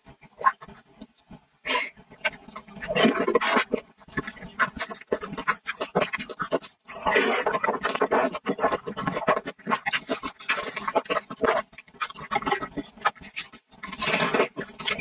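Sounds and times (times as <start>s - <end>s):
slurping noodles: 1.7s - 15.0s.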